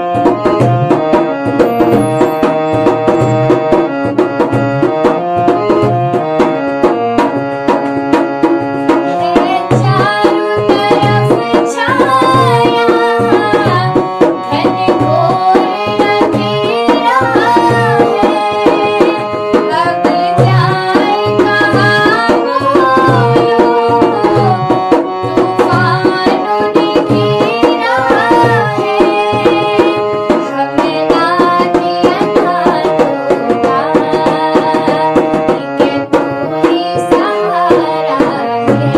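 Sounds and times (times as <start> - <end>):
tabla rhythm: 0.0 - 38.9.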